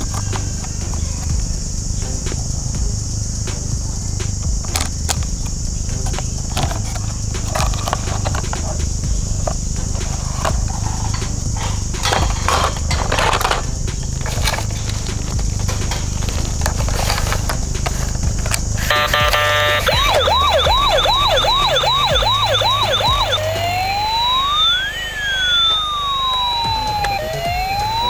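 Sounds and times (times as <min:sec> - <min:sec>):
high hiss: 0:00.0 - 0:28.0
low rumble: 0:00.0 - 0:28.0.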